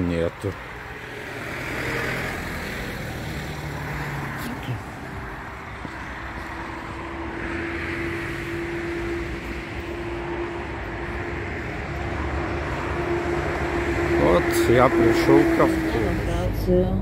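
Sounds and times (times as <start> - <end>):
passing cars hissing: 0.0 - 16.3.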